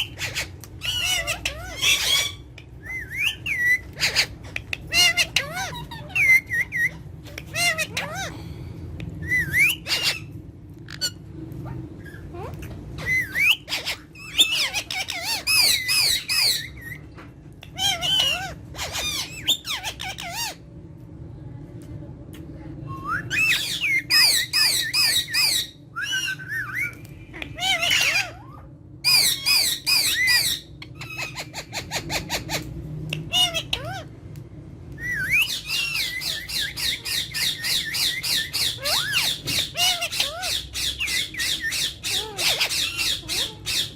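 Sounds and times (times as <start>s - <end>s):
parakeets squawking: 0.0s - 8.6s, 9.3s - 20.7s, 23.2s - 34.2s, 35.0s - 43.9s.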